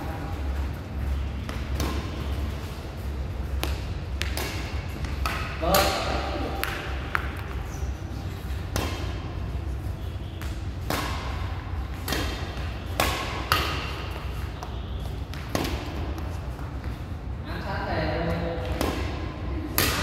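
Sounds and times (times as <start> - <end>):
badminton rackets hitting shuttlecocks: 1.3 - 17.0, 18.2 - 20.0.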